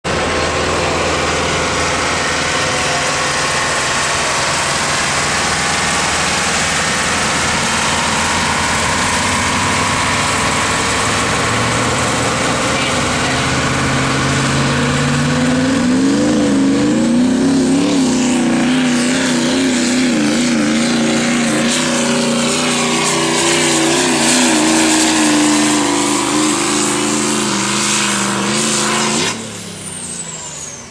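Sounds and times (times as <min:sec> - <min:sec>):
diesel pickup engine roaring: 0:00.0 - 0:30.9.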